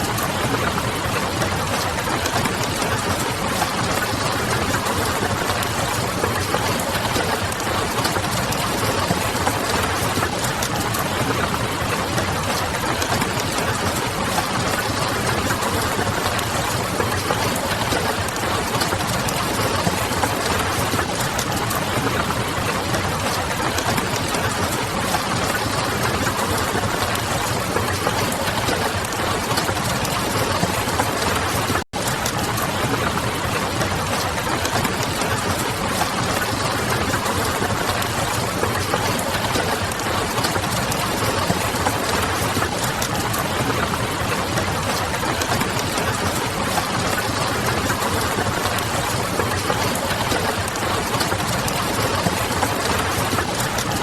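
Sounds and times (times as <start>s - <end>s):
rain pattering on a window: 0.0s - 54.0s.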